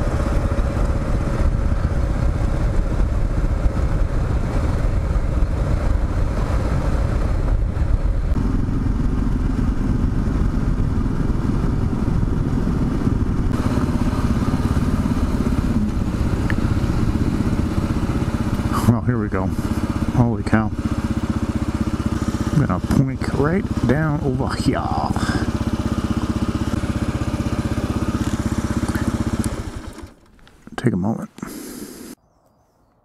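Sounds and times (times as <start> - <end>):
motorcycle engine running: 0.0 - 30.5.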